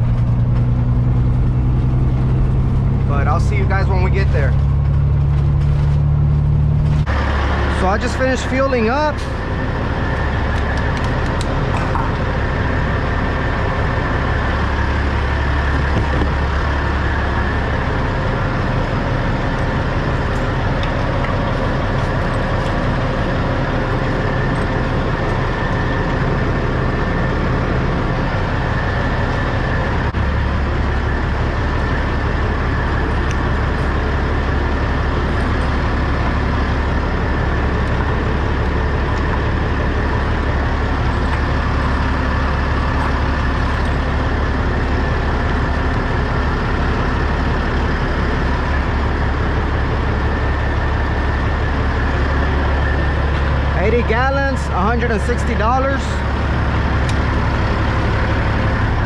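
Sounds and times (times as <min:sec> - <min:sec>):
high-pitched whine: 0:00.0 - 0:59.0
truck engine idling: 0:00.0 - 0:59.0.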